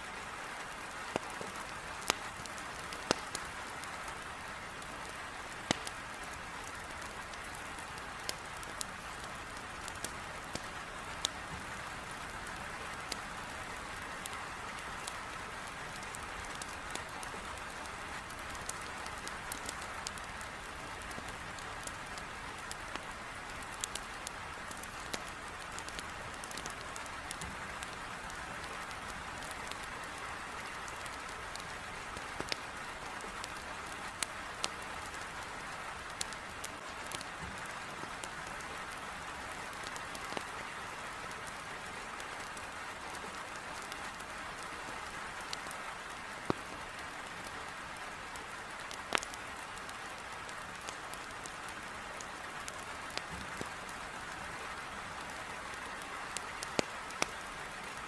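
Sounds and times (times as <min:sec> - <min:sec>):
heavy rain on a window: 0:00.0 - 0:58.0
firewood crackling in fireplace: 0:00.2 - 0:58.0.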